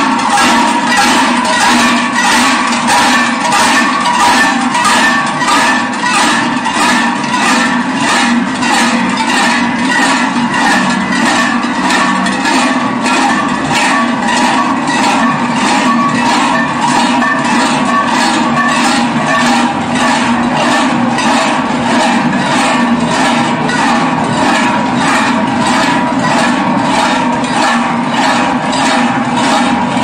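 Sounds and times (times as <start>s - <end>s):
large cowbells clanging in rhythm: 0.0s - 30.0s.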